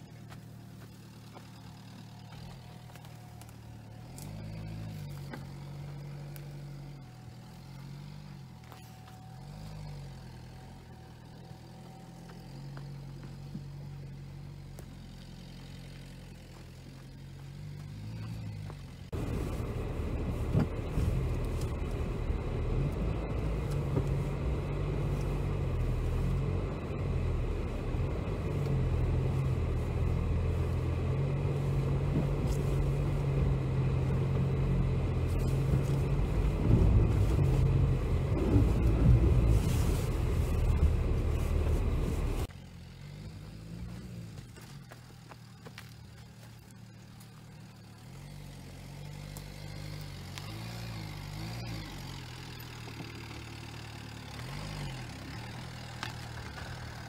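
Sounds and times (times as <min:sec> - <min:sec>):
knocking and rattling over rough ground: 0:00.0 - 0:09.7, 0:10.5 - 0:57.0
car engine in low gear: 0:00.0 - 0:57.0.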